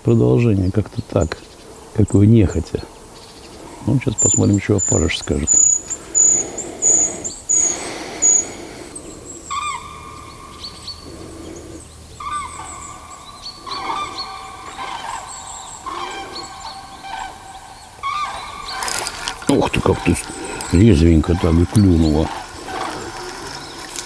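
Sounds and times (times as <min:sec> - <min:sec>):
bird long calls: 0:00.0 - 0:24.0.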